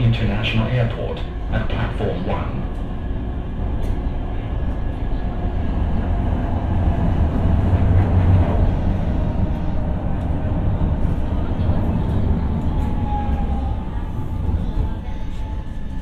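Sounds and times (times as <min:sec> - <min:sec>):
train rumbling at platform: 0:00.0 - 0:16.0.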